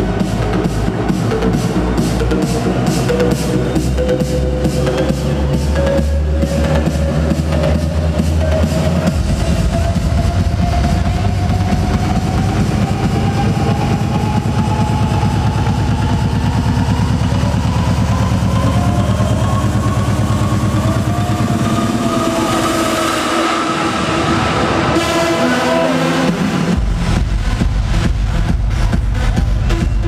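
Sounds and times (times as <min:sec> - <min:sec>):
trance music through sound system: 0:00.0 - 0:30.0.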